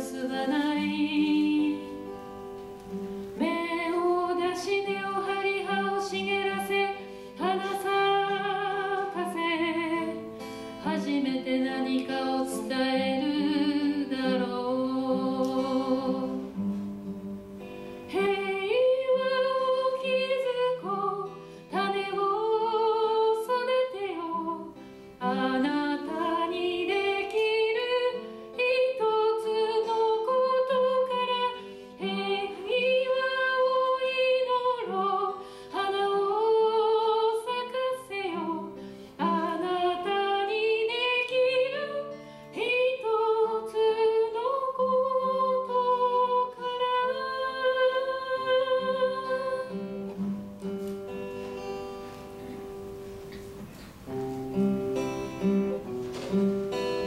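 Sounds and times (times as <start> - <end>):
woman singing: 0.0 - 50.3
acoustic guitar: 0.0 - 57.0.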